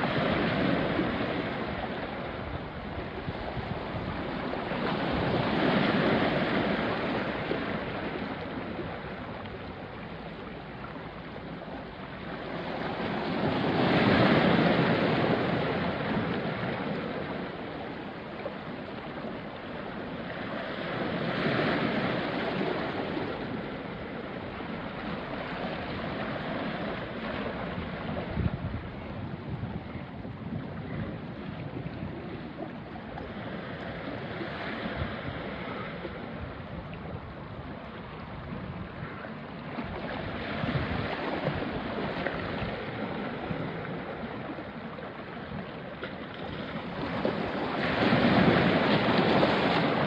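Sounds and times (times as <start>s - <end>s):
waves washing onto rocky shore: 0.0s - 50.0s.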